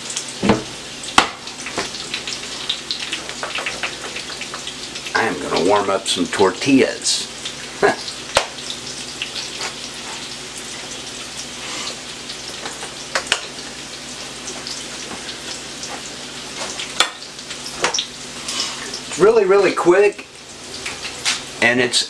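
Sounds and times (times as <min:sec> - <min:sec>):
fish frying in hot oil: 0:00.0 - 0:22.0.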